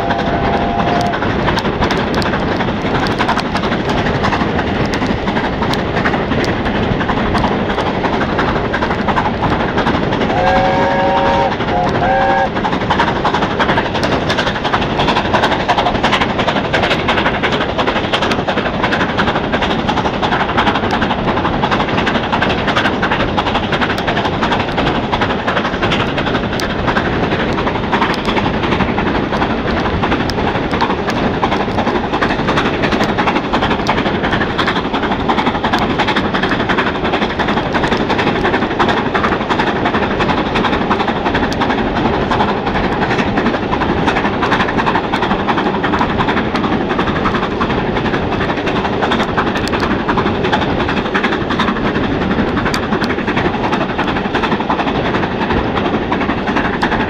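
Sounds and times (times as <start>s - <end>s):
rush of train passage: 0.0s - 57.0s
steam locomotive working hard: 0.0s - 57.0s.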